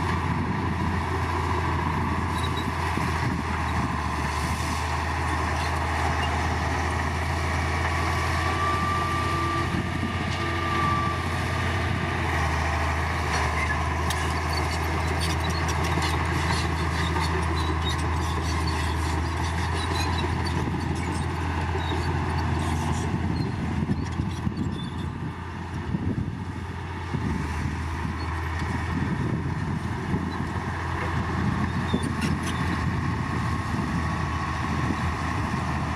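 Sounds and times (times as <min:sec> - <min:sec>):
diesel machinery engine drone: 0:00.0 - 0:35.9.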